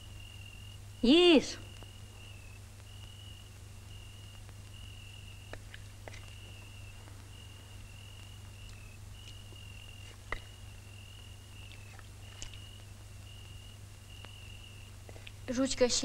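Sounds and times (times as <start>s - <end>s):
insect trilling: 0.0s - 16.0s.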